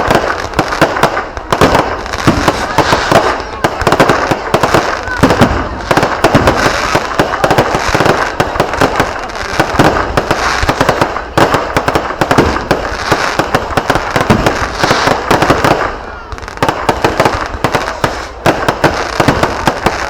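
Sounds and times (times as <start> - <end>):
fireworks cracking and popping: 0.0 - 20.0.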